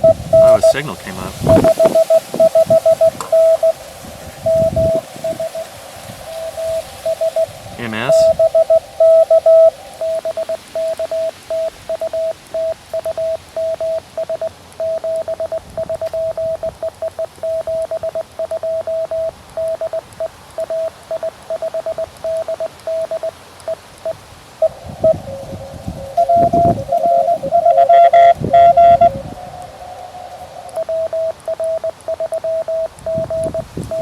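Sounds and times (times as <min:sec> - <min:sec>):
morse code tone keying: 0:00.0 - 0:34.0.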